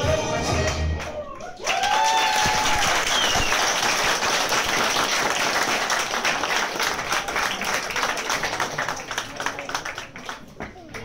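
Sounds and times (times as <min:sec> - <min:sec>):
audience applauding: 0:00.6 - 0:11.0.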